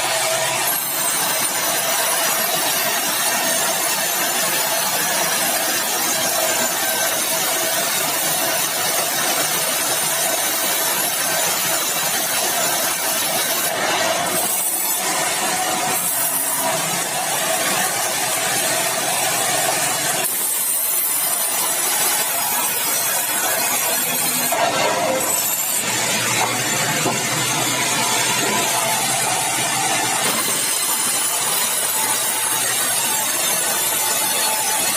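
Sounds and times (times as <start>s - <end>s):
sawmill saw cutting timber: 0.0s - 34.9s.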